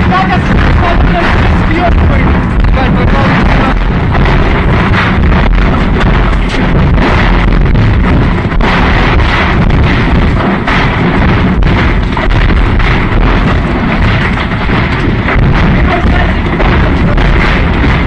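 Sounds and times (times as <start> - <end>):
exploding shells bangs and crackles: 0.0 - 18.0
low fire rumble: 0.0 - 18.0.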